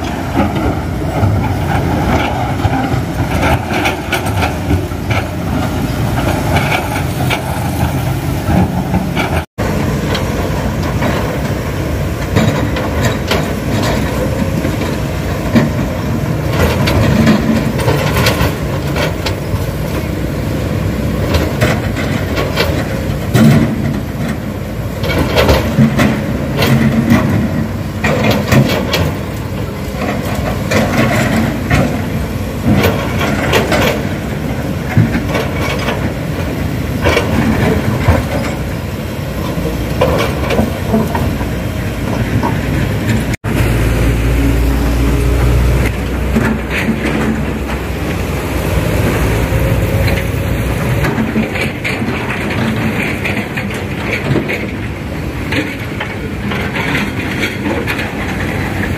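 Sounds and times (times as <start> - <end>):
diesel engines under load: 0.0 - 58.9.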